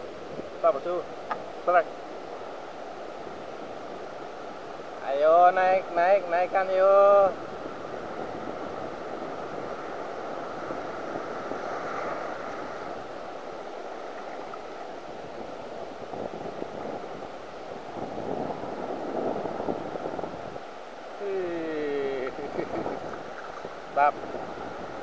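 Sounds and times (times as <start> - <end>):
surf waves washing: 0.0 - 25.0.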